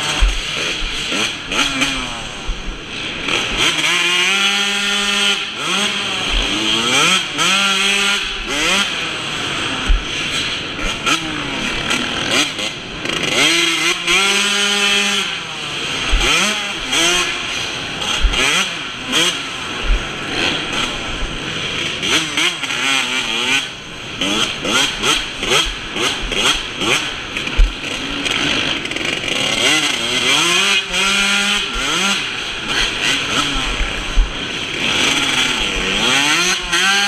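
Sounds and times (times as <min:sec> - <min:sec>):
motocross engine revving: 0:00.0 - 0:37.0.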